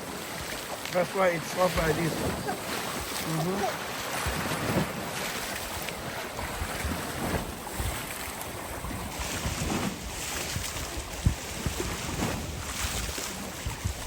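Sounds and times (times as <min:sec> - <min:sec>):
sea water splashing: 0:00.0 - 0:14.0
wind buffeting microphone: 0:01.5 - 0:14.0.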